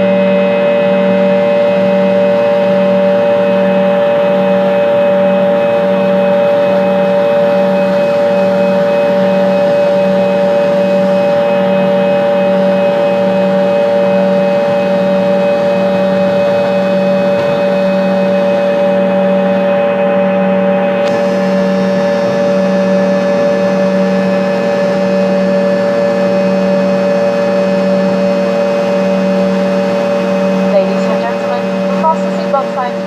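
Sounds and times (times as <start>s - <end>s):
jet cabin drone: 0.0s - 33.0s
pulsing low hum: 0.0s - 33.0s
steady engine whine: 0.0s - 33.0s.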